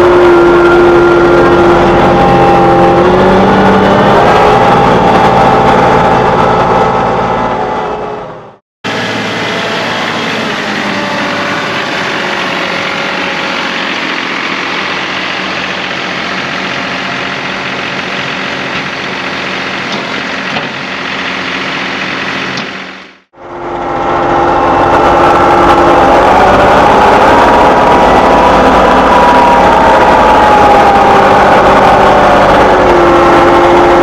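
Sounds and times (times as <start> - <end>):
diesel tractor engine running: 0.0 - 34.0.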